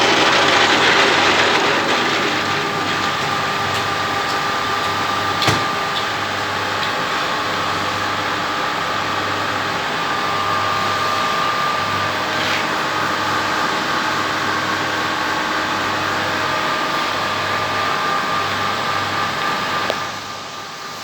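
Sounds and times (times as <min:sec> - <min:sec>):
metal lathe hum and whine: 0:02.3 - 0:21.0.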